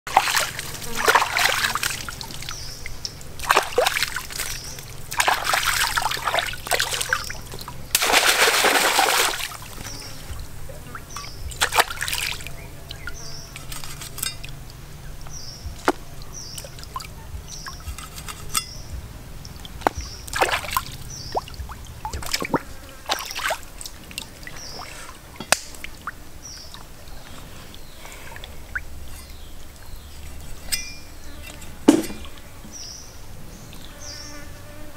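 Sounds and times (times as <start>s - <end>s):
water splashing around wading person: 0.1s - 18.7s, 19.4s - 32.9s.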